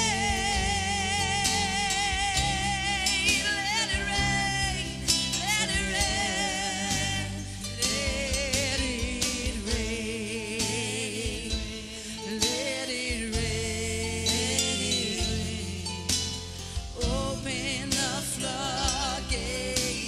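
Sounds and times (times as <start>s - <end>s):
person singing long notes: 0.0s - 16.1s
band with drums and bass: 0.0s - 20.0s.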